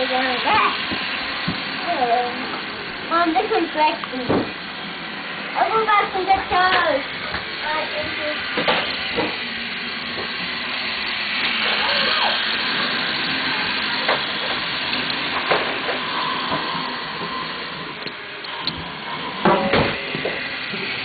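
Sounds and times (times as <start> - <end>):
toy trains whirring on track: 0.0 - 21.0.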